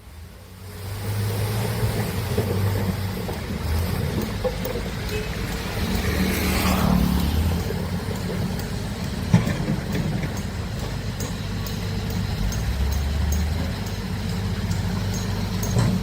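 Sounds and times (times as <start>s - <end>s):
diesel engine running: 0.2s - 16.0s.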